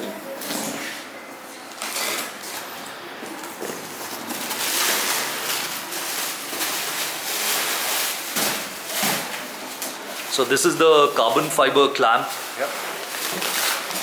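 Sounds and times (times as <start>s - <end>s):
packaging rustling and crinkling: 0.4s - 14.0s.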